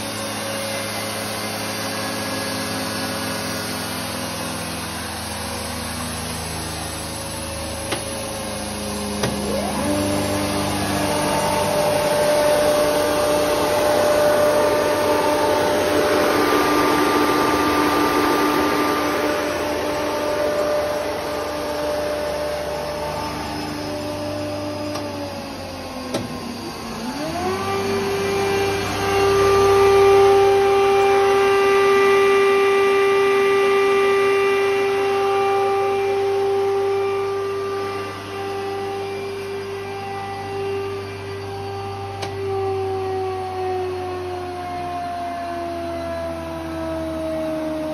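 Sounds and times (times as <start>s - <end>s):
moulder machine motors humming: 0.0s - 44.3s
machine whirring: 0.0s - 47.9s.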